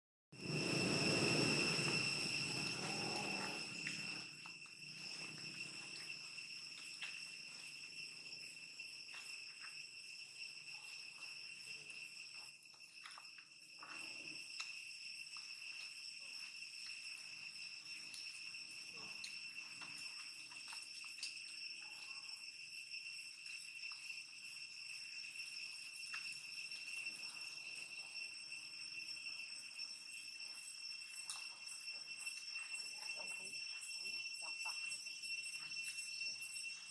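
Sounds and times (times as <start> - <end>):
insects droning: 0.4 - 36.9.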